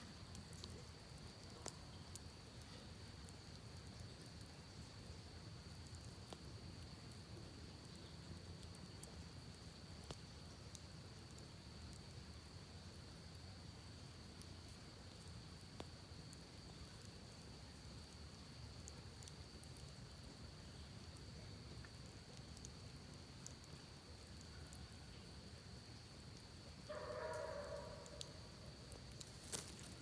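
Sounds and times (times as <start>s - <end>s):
campfire crackling and popping: 0.0s - 27.4s, 28.0s - 30.0s.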